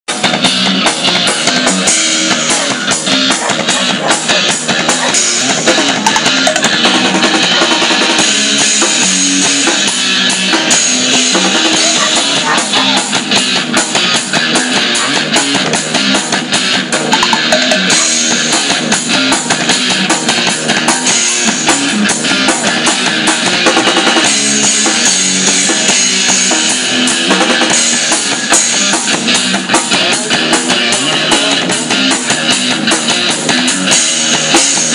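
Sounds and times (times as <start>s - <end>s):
loud rock music with drums: 0.0s - 34.9s.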